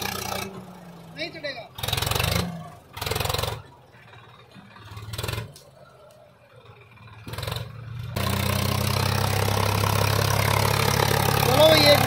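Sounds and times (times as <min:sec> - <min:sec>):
tractor diesel engine: 0:00.0 - 0:12.0.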